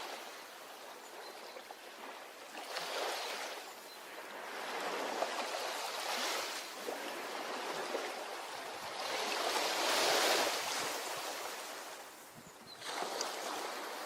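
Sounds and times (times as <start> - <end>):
ocean waves washing onto beach: 0.0 - 14.0.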